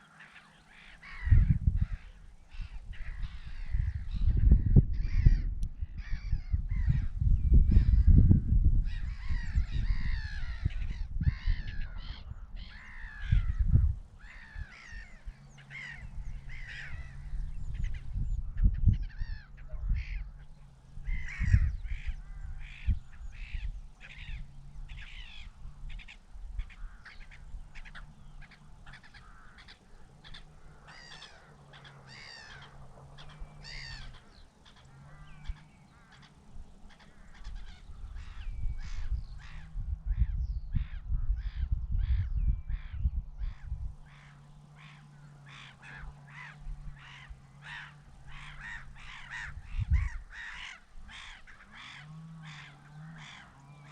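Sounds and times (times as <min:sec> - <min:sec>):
flock of birds calling: 0:00.0 - 0:53.9.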